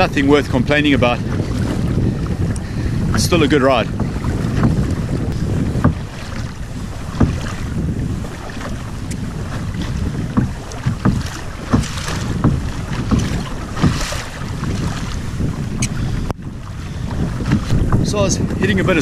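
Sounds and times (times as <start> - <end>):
water slapping against hull: 0.0 - 19.0
wind noise on microphone: 0.0 - 19.0.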